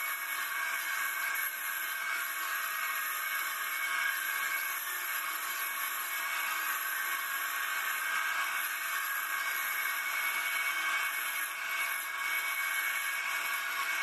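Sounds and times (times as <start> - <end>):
wood lathe machine whine: 0.0 - 14.0.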